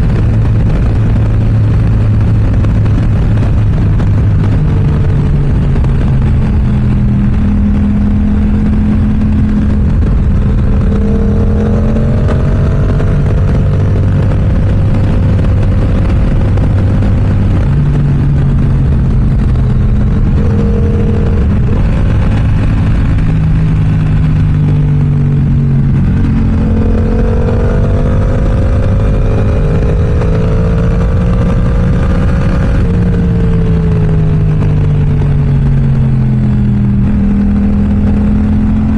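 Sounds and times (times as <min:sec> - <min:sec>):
motorcycle engine running through gears: 0:00.0 - 0:38.9.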